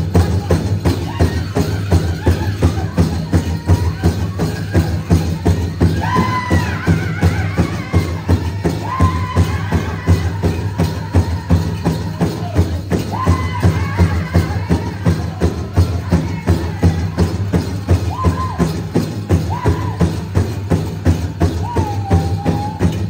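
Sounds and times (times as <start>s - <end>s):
drum group drumming: 0.0s - 23.0s
high-pitched group singing: 0.2s - 18.7s.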